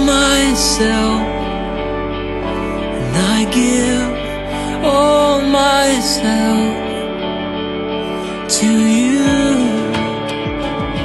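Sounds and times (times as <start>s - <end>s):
slow song with guitar: 0.0s - 11.0s.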